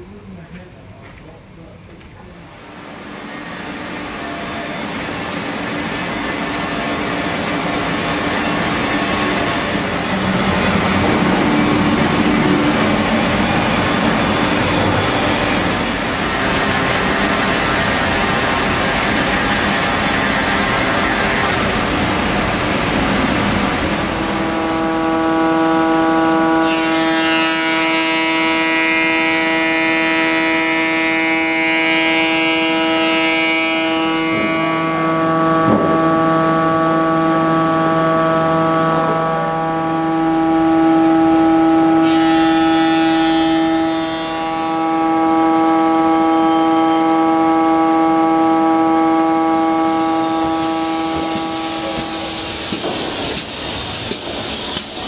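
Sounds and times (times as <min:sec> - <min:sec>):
loud droning tone: 0:06.2 - 0:22.4, 0:23.1 - 0:52.5.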